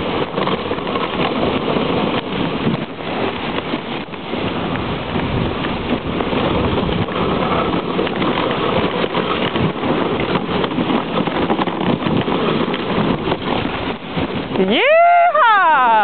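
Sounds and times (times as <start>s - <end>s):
small crackles: 0.0s - 14.5s
sled runners scraping over snow: 0.0s - 16.0s.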